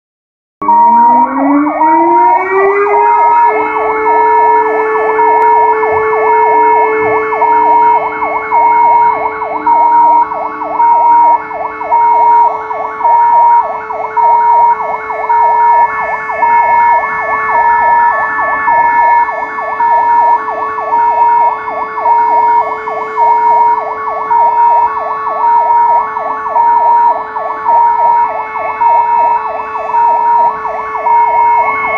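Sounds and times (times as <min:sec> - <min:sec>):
siren wailing: 0:00.6 - 0:31.9
two-pitch siren tone: 0:00.6 - 0:31.9.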